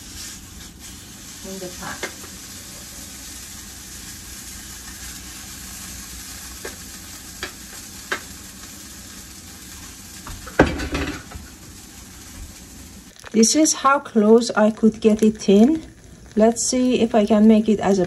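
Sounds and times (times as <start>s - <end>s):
dough sizzling in a frying pan: 0.0s - 18.0s.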